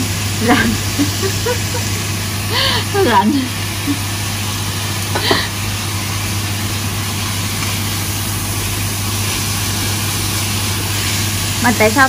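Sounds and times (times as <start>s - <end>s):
beef frying in a pan: 0.0s - 12.0s
kitchen appliances humming: 0.0s - 12.0s.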